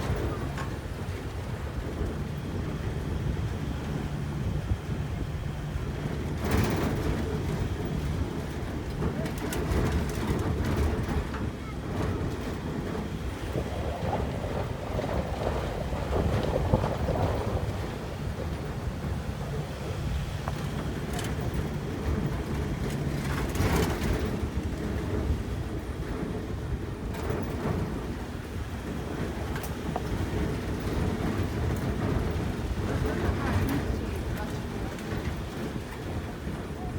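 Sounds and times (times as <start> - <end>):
knocks and rattles from bumps: 0.0 - 36.9
vehicle engine and road rumble: 0.0 - 36.9.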